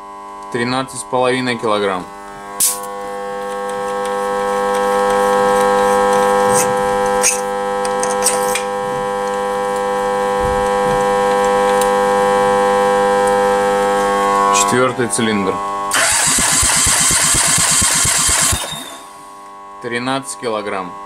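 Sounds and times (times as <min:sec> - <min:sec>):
steady hum of held tones: 0:00.0 - 0:16.0, 0:17.1 - 0:21.0.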